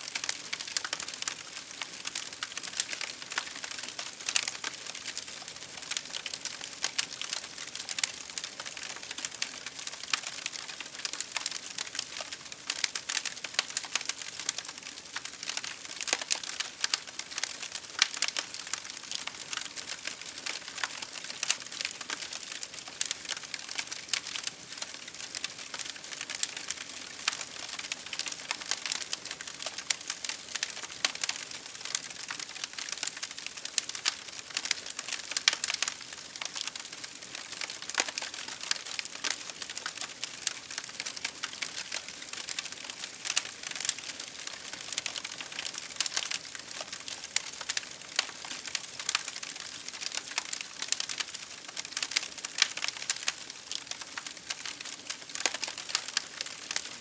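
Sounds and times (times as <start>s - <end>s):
fire crackling: 0.1s - 57.0s.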